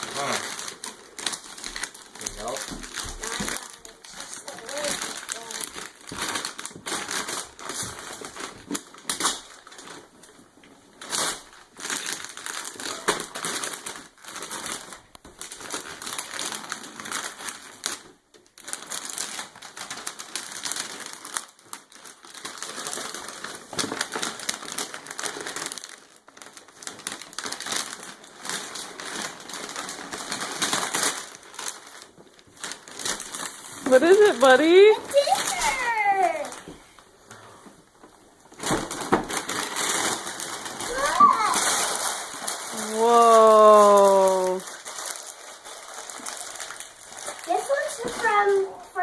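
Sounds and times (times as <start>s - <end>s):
wrapping paper tearing and crumpling: 0.0s - 49.0s.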